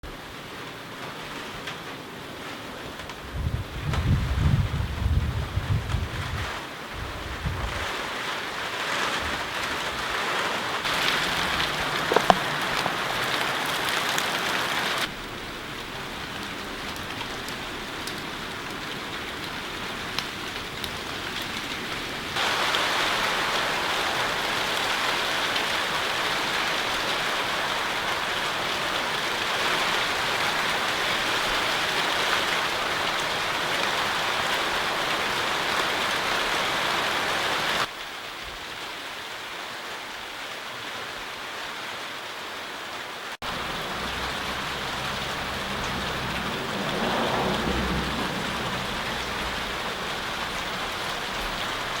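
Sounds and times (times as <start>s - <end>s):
rain pattering on surfaces: 0.0s - 52.0s.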